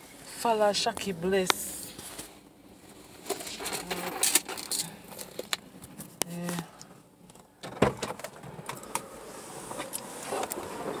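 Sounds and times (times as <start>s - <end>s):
handling clicks and rustles: 0.8s - 11.0s.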